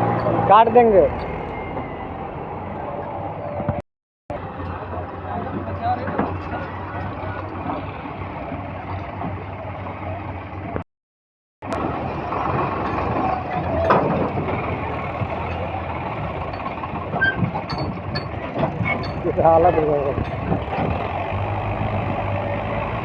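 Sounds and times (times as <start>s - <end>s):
diesel tractor engine running: 0.0s - 10.8s, 11.6s - 23.0s.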